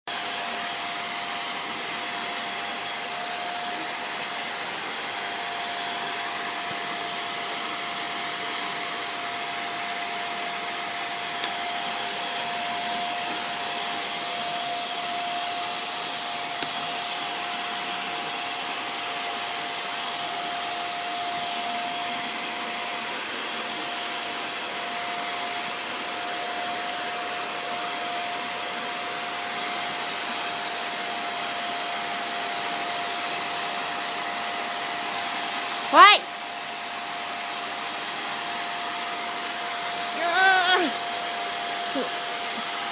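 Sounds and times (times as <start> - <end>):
vacuum cleaner running: 0.1 - 42.9.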